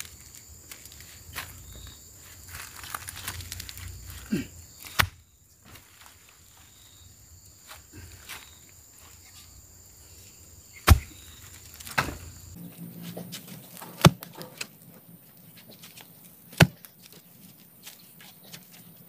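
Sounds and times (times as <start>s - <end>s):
high insect chirr: 0.0s - 19.0s.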